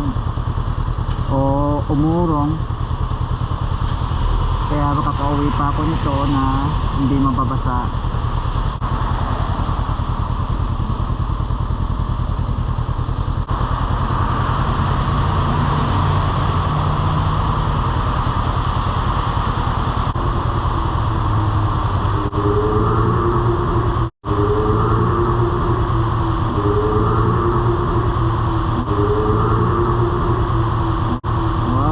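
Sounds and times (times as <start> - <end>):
motorcycle engine running: 0.0 - 31.9
wind and road noise: 0.0 - 31.9.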